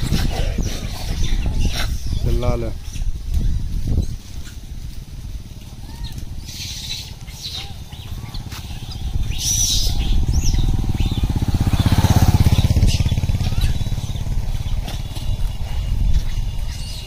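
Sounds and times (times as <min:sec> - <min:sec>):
motorcycle passing by: 0:00.0 - 0:17.0.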